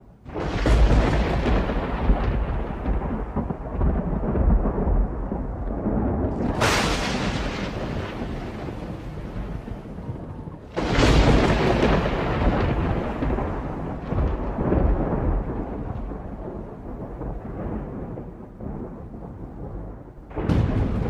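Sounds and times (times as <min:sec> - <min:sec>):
volcanic eruption rumble: 0:00.3 - 0:21.0.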